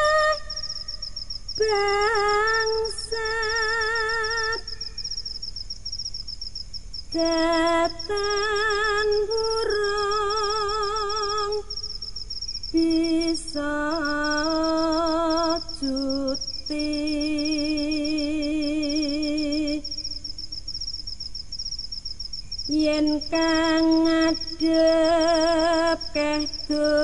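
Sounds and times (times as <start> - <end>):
person singing with vibrato: 0.0 - 5.1, 7.1 - 12.1, 12.7 - 20.3, 22.6 - 27.0
high chirping: 0.0 - 27.0.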